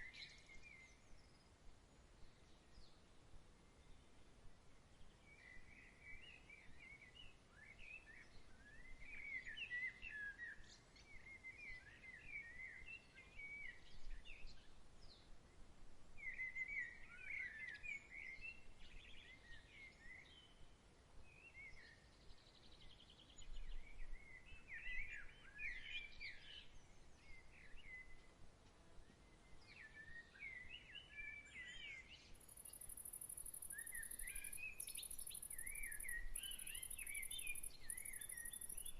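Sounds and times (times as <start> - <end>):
songbird singing: 0.0 - 38.9
steady outdoor hiss: 0.0 - 38.9.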